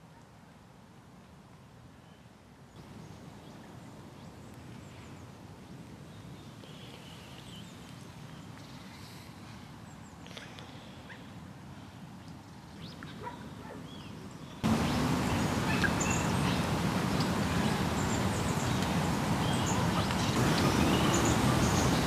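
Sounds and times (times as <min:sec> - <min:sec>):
small birds chirping: 0:02.0 - 0:11.4, 0:12.1 - 0:22.0.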